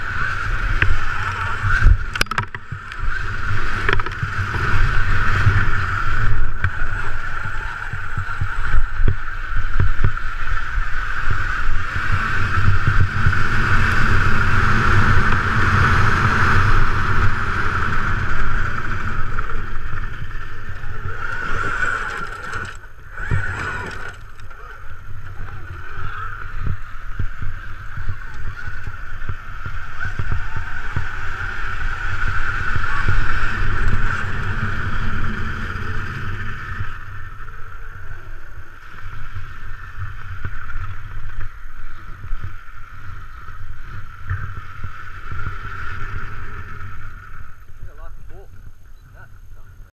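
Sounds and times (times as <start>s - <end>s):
electric motor whine: 0.0s - 48.8s
wind rumbling on microphone: 0.0s - 49.9s.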